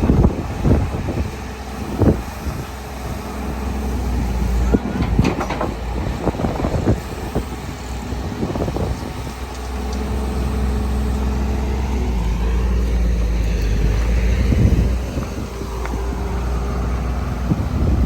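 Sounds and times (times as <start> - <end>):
excavator diesel engine running: 0.0 - 18.0
steady hydraulic whine: 0.0 - 18.0.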